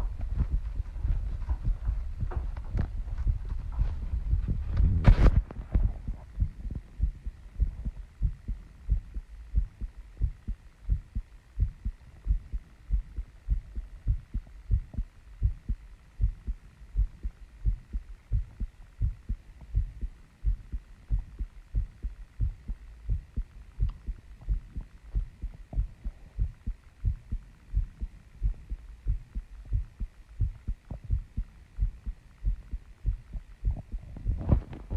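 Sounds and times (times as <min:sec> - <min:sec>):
heartbeat thumping: 0:00.0 - 0:34.9.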